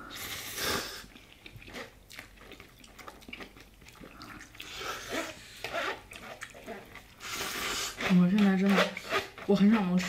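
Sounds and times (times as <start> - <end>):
person chewing noodles: 0.0 - 9.4.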